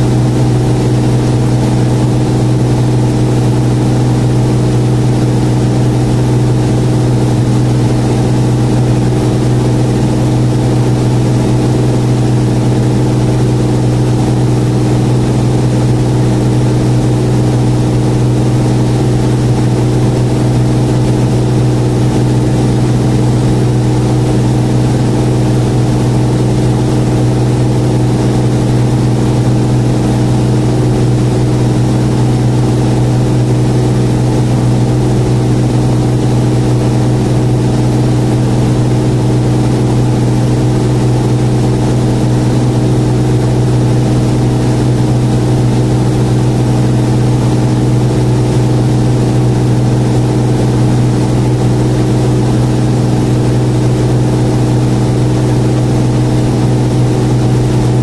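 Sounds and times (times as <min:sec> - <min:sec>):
airliner engines droning in cabin: 0:00.0 - 0:58.0.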